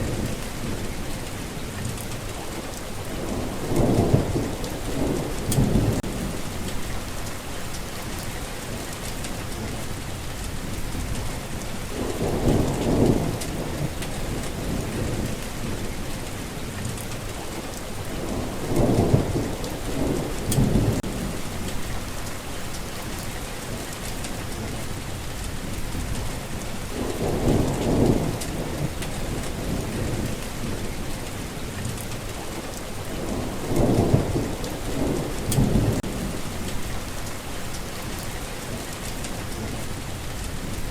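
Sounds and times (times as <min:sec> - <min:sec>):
heavy rain falling: 0:00.0 - 0:40.9
low thunder rolling: 0:03.1 - 0:09.8, 0:10.6 - 0:16.9, 0:18.0 - 0:24.8, 0:25.6 - 0:32.2, 0:33.0 - 0:39.8.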